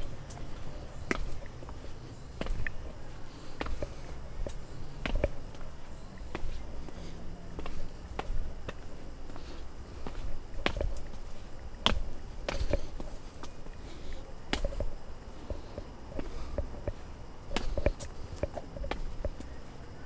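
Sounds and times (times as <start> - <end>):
footsteps on a trail: 0.0 - 20.0.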